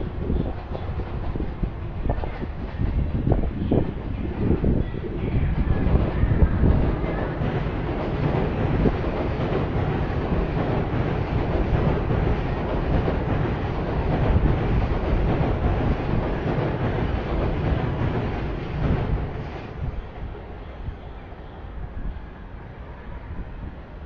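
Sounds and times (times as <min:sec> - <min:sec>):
train passing with low rumble: 0:00.0 - 0:24.0.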